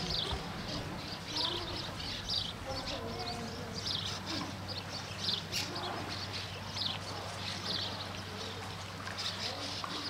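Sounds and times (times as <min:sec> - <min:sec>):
birds chirping: 0:00.0 - 0:10.0
steady low hum: 0:00.0 - 0:10.0.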